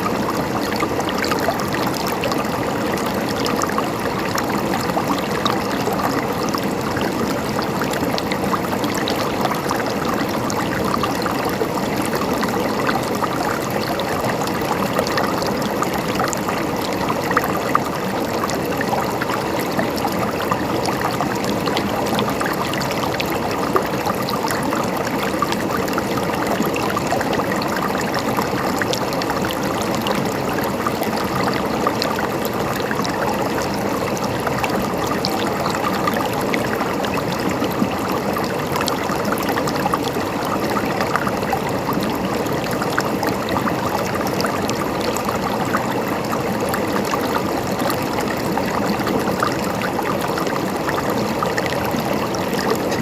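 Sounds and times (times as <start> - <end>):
shallow water flowing and gurgling: 0.0 - 53.0.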